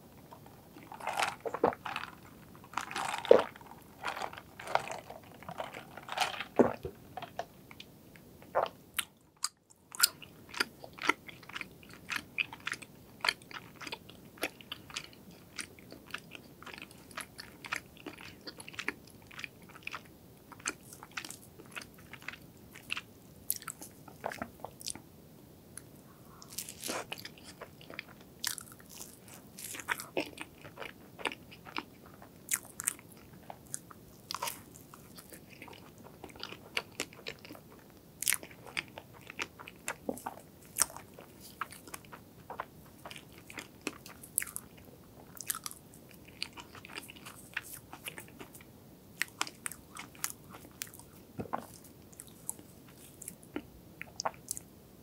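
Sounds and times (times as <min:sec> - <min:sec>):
person chewing: 0:00.3 - 0:07.5, 0:08.5 - 0:25.0, 0:26.3 - 0:48.6, 0:49.2 - 0:54.6.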